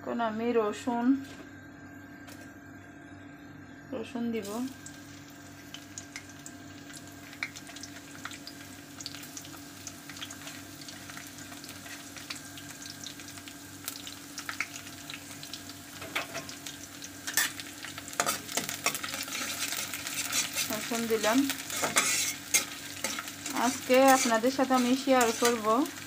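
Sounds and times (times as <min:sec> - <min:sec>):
garlic sizzling in hot oil: 0:04.4 - 0:26.0.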